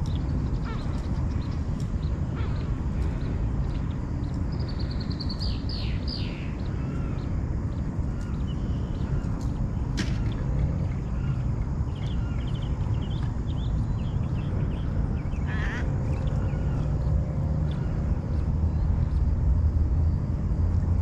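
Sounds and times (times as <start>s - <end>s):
birds calling: 0.0s - 19.2s
steady low rumble: 0.0s - 21.0s.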